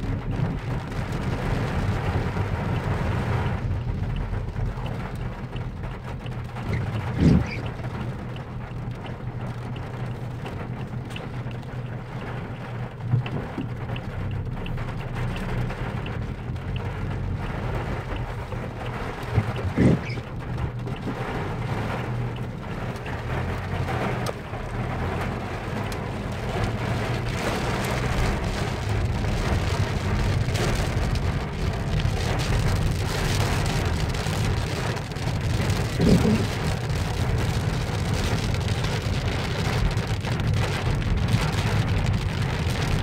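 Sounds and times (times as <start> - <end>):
engine and road rumble: 0.0 - 43.0
rain hitting car windshield: 0.0 - 43.0
windshield wiper sweeping: 0.0 - 43.0.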